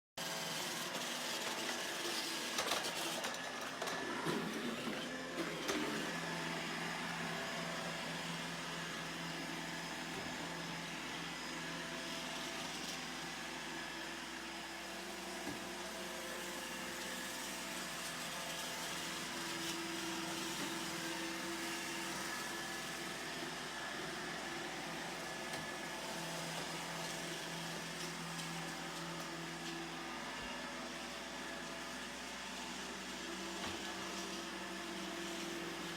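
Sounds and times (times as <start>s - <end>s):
robot vacuum whirring: 0.3s - 35.9s.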